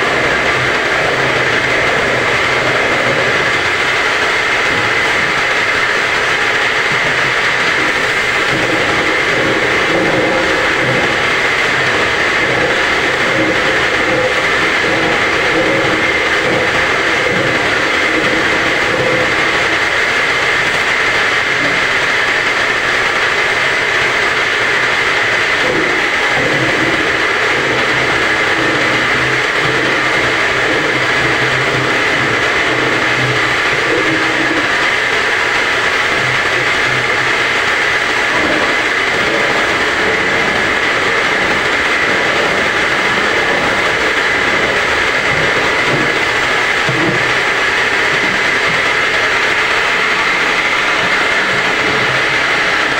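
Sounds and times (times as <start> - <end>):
bottle washing machine running: 0.0 - 52.9.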